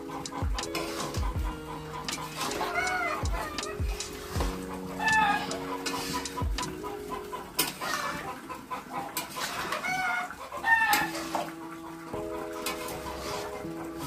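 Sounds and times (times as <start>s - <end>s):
chicken clucking: 0.0s - 14.0s.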